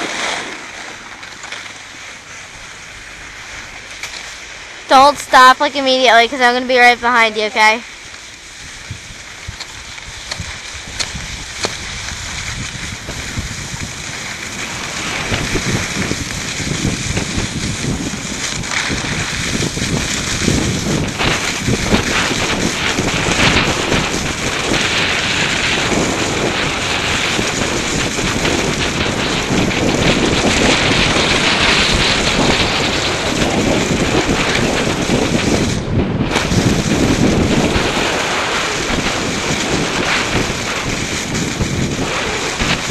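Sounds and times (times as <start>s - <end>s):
snowboard scraping over snow: 0.0s - 42.9s
wind buffeting microphone: 0.7s - 42.9s.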